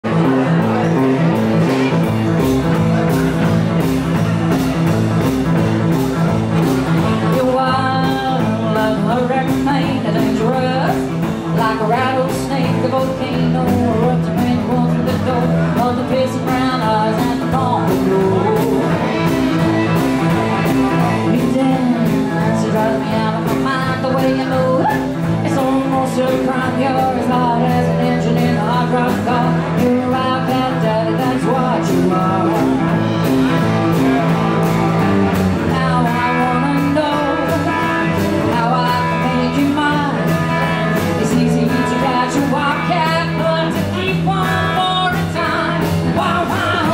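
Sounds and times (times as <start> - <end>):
rock and roll band playing: 0.0 - 46.9
person singing: 7.0 - 46.9.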